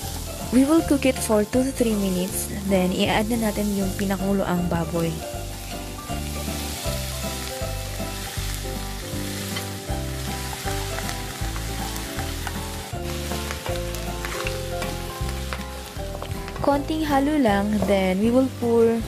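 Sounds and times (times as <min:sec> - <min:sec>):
background music with steady beat: 0:00.0 - 0:19.0
meat sizzling in hot oil: 0:00.0 - 0:19.0.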